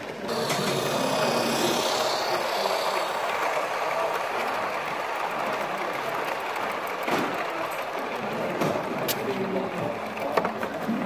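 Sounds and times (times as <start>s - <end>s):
model train motor whirring and rattling: 0.0s - 11.0s.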